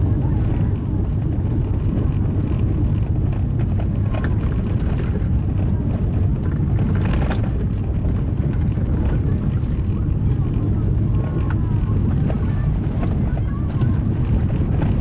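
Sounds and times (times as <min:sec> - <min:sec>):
car driving on gravel: 0:00.0 - 0:15.0.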